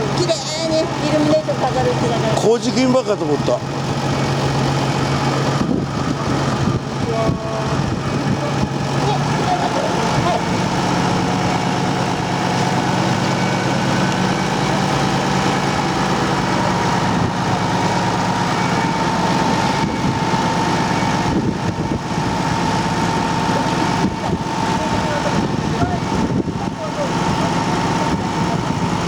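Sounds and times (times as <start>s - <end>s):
constant broad noise: 0.0s - 29.0s
large engine idling: 0.0s - 29.0s.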